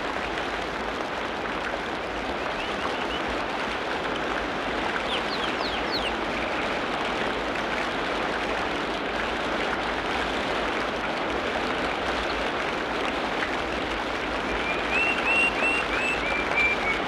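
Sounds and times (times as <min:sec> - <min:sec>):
rain on foliage: 0:00.0 - 0:17.0.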